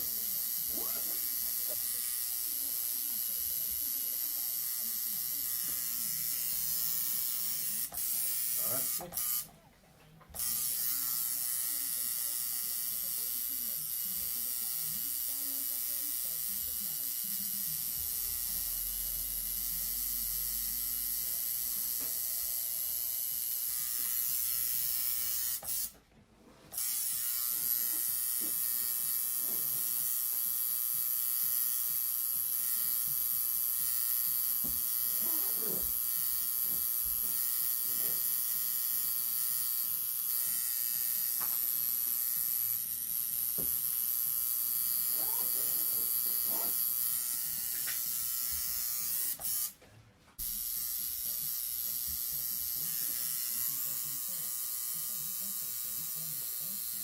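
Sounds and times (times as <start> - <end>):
tattoo machine buzzing: 0.0 - 9.5, 10.3 - 26.0, 26.7 - 49.8, 50.4 - 57.0.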